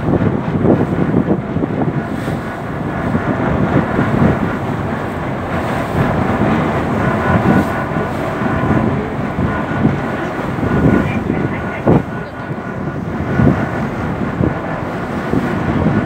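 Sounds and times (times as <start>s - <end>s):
boat engine drone: 0.0s - 16.0s
wind buffeting microphone: 0.0s - 16.0s.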